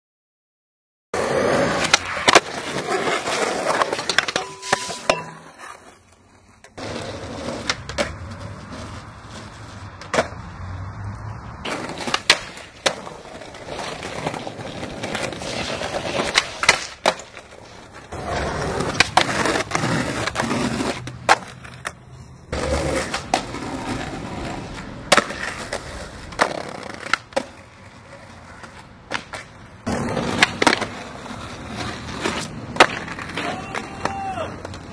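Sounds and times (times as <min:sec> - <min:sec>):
skateboard wheels rolling on concrete: 0:01.1 - 0:34.9
skateboard deck clacking: 0:01.4 - 0:10.4, 0:11.6 - 0:34.9.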